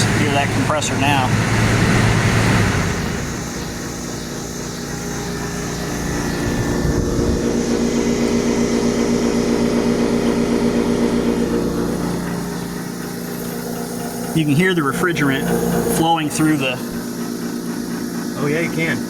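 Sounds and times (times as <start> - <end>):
air conditioner compressor humming: 0.0 - 19.0.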